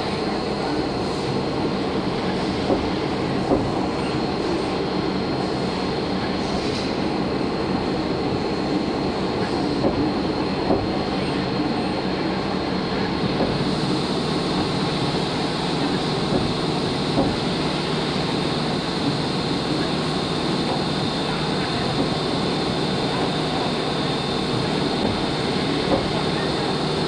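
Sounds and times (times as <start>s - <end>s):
machine running steadily: 0.0s - 27.0s.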